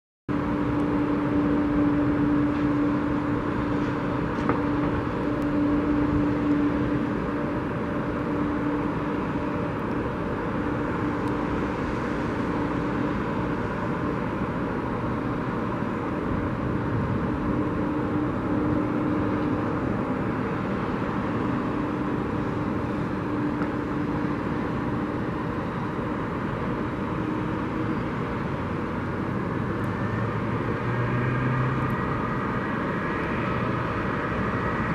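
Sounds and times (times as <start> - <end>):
distant jet engine rumble: 0.3 - 34.9.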